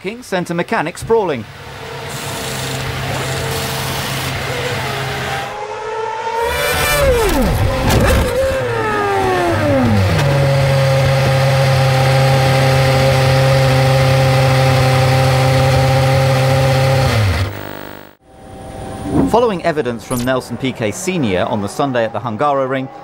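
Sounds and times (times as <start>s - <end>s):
racing car engine revving down: 1.5s - 20.0s.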